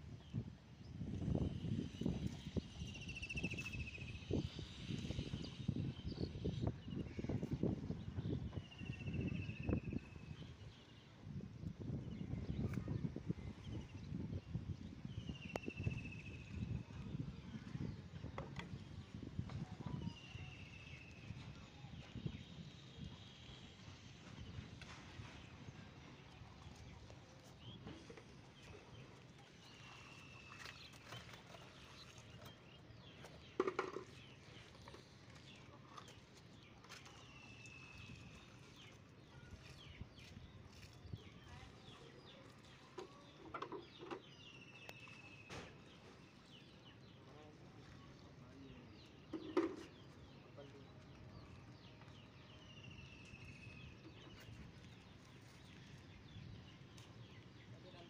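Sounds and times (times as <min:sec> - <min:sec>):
faint birds chirping: 0:01.6 - 0:58.0.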